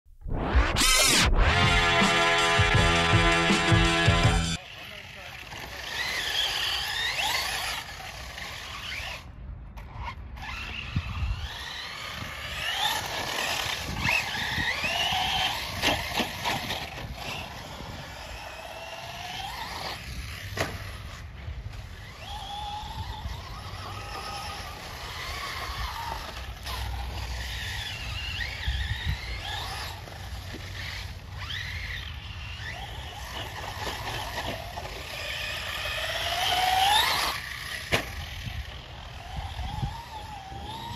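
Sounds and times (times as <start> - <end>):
rc truck motor whining: 0.8 - 40.9.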